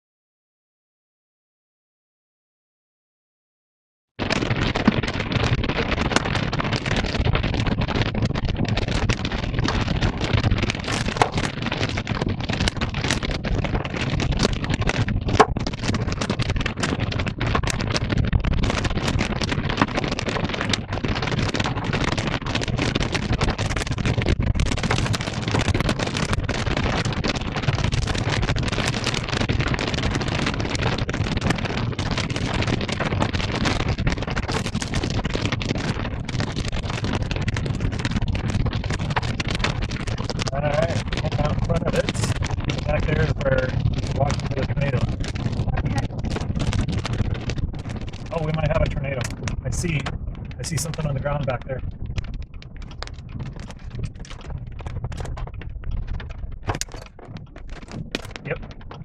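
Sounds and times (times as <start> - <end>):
storm wind buffeting microphone: 4.2 - 59.0.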